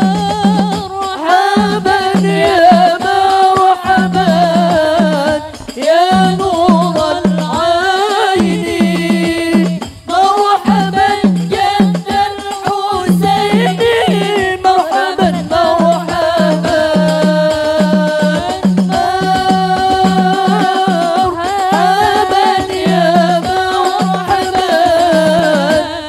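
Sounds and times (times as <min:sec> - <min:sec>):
woman singing through a microphone: 0:00.0 - 0:26.0.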